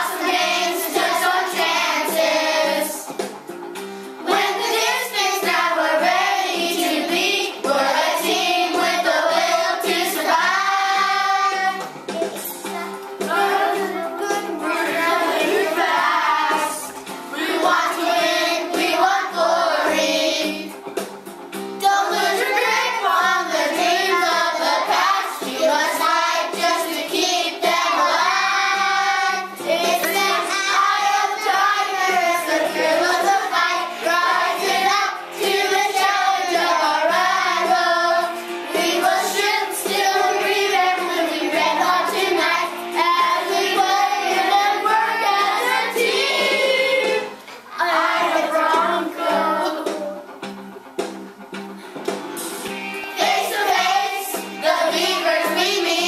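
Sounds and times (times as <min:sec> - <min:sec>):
children singing: 0:00.0 - 0:03.3, 0:04.2 - 0:12.0, 0:12.9 - 0:20.8, 0:21.8 - 0:50.3, 0:53.1 - 0:56.0
music playing: 0:00.0 - 0:56.0.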